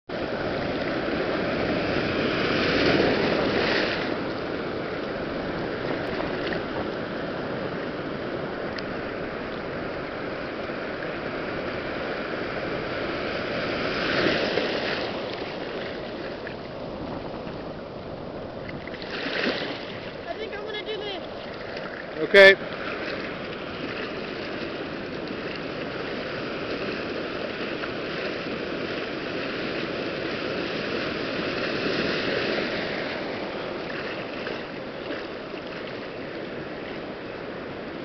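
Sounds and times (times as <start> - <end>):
whitewater rushing around surfboard: 0.1 - 38.0.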